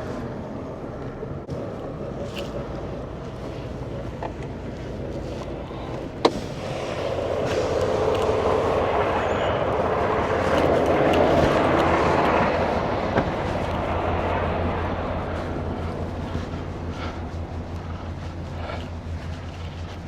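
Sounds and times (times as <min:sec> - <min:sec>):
truck engine heard from cab: 0:00.0 - 0:20.0.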